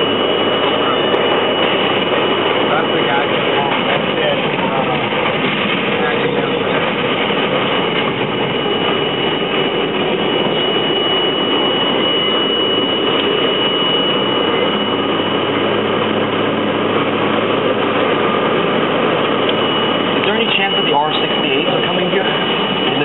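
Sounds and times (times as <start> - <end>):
high whine: 0.0 - 23.0
subway train running in tunnel: 0.0 - 23.0.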